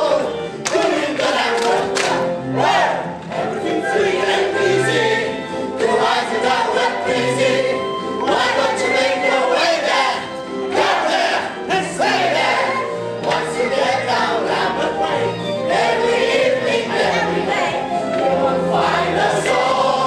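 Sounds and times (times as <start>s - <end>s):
group singing together: 0.0s - 20.0s
instrumental accompaniment: 0.0s - 20.0s.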